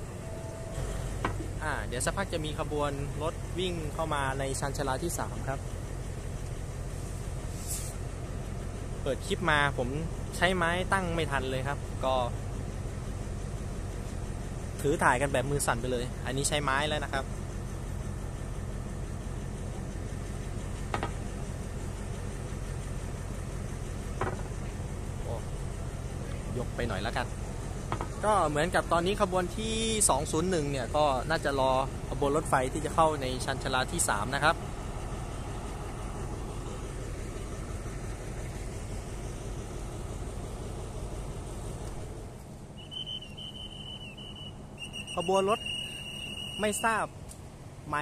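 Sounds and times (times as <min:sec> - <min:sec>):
diesel train engine idling: 0:00.0 - 0:48.0.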